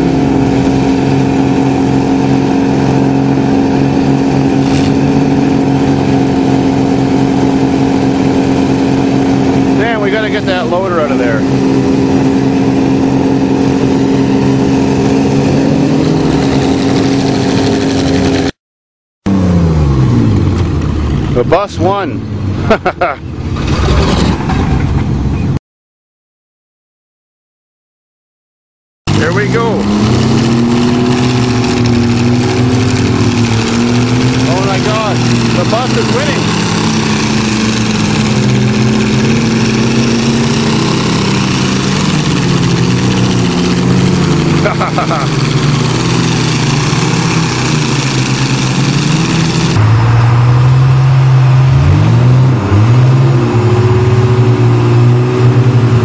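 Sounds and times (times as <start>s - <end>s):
vehicle engines running hard: 0.0s - 18.6s, 19.3s - 25.6s, 29.1s - 56.0s.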